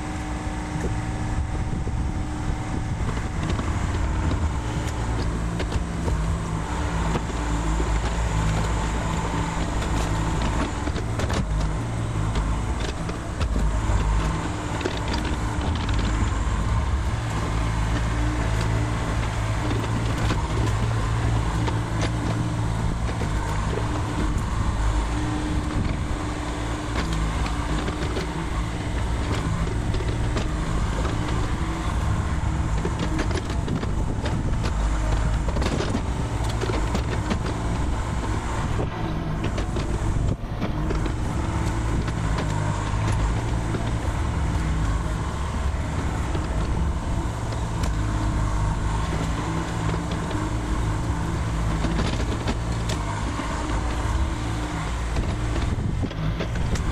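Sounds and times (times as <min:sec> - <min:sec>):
excavator diesel engine running: 0:00.0 - 0:56.9
knocks and clatter: 0:02.0 - 0:56.9.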